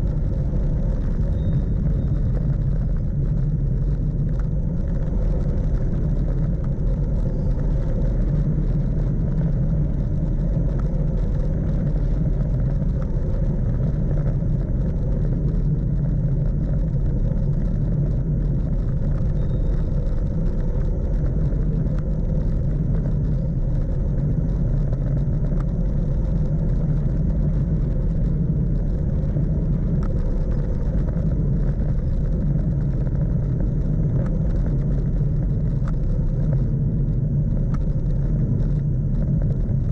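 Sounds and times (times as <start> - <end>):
bike tyres rumbling on asphalt: 0.0 - 39.9
wind on microphone: 0.0 - 39.9.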